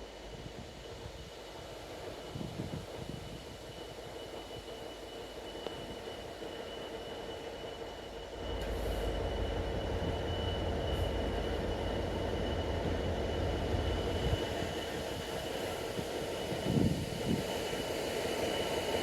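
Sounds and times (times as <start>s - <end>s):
freight train rumble: 0.0s - 19.0s
steady whine: 0.0s - 19.0s.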